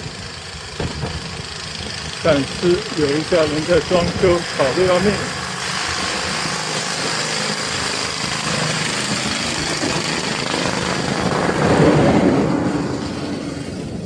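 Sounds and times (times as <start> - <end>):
power tool and machine noise: 0.0 - 14.0.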